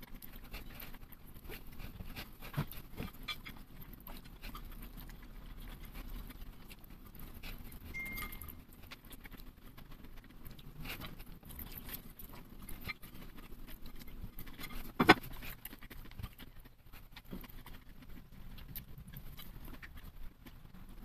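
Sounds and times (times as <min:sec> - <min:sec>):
chewing and mouth sounds: 0:00.0 - 0:21.0.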